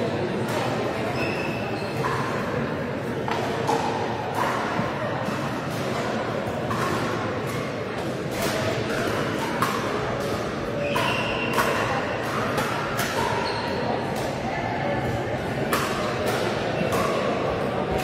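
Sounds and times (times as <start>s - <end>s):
hubbub of voices: 0.0s - 18.0s.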